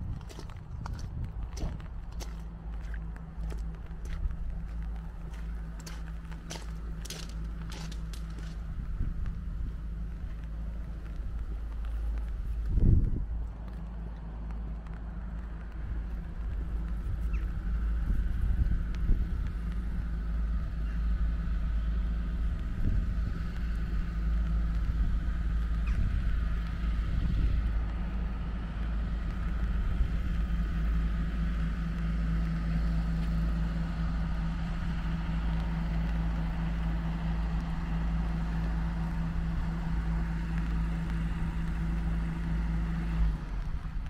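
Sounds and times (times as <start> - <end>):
low hum: 0.0 - 44.0
wind rumbling on microphone: 0.0 - 44.0.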